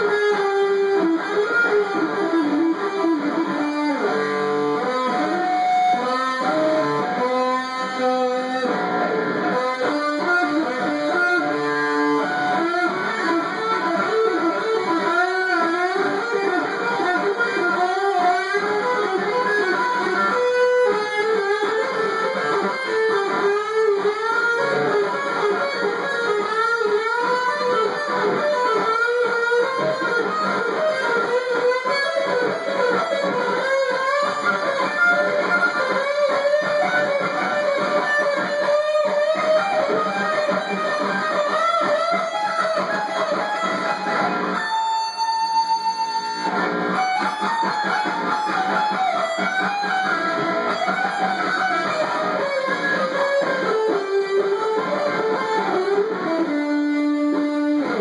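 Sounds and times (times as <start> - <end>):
electric guitar lead: 0.0 - 58.0.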